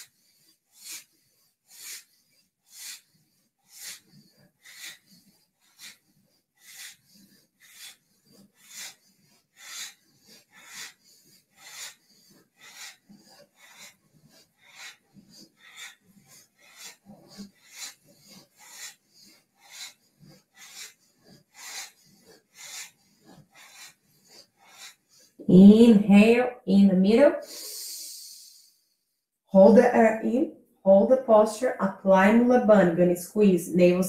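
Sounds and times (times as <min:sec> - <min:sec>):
strong rhythmic breathing: 0:00.0 - 0:34.0.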